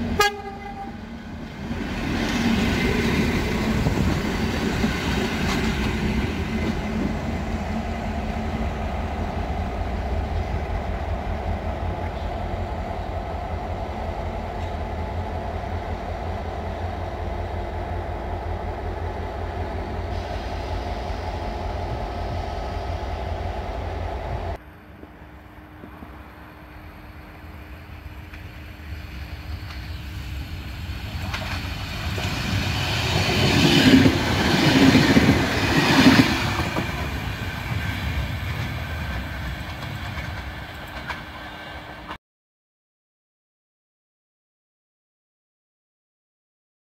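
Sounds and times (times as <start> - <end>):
train approaching: 0.0 - 42.2
train rumbling with droning tone: 0.0 - 42.2.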